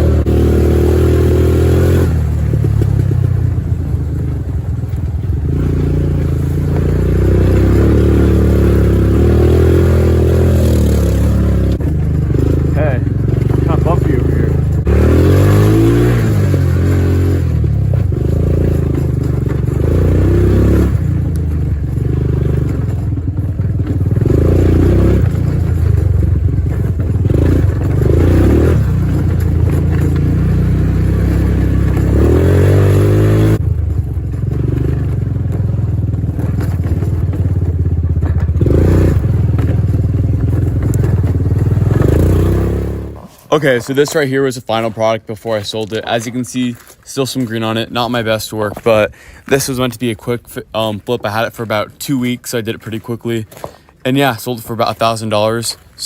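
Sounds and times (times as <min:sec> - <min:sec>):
atv engine accelerating: 0:00.0 - 0:56.0.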